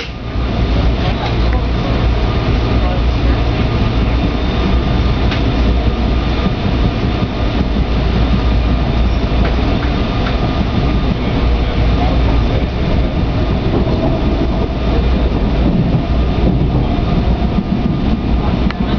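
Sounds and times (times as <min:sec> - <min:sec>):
train rumbling: 0:00.0 - 0:18.9.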